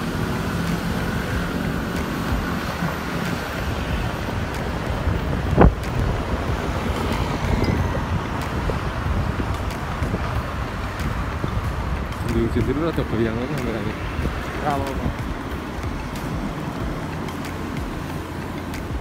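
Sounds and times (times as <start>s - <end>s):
street traffic rumble: 0.0s - 19.0s
wind buffeting microphone: 0.0s - 19.0s.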